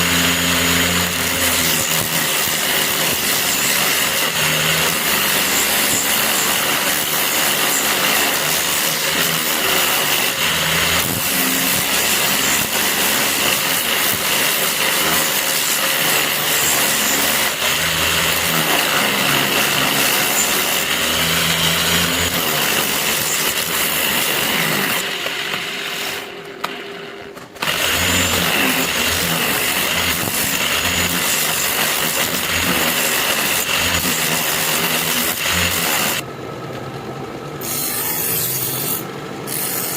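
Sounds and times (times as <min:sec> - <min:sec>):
power tool whining: 0:00.0 - 0:36.3.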